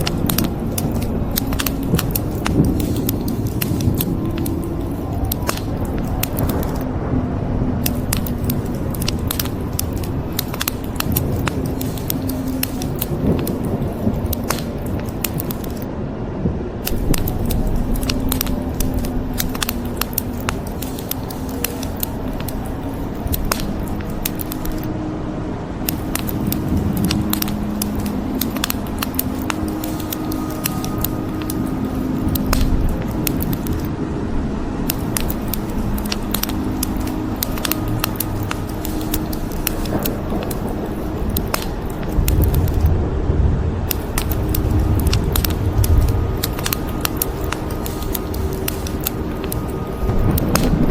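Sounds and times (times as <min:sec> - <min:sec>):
wood fire crackling: 0:00.0 - 0:07.1, 0:07.7 - 0:50.9
low held notes: 0:00.0 - 0:50.9.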